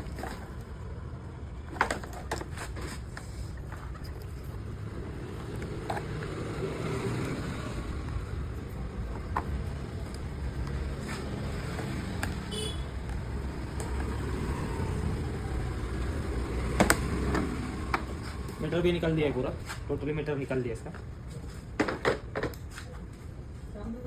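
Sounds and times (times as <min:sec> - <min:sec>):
low rumble of motor vehicles: 0:00.0 - 0:24.0.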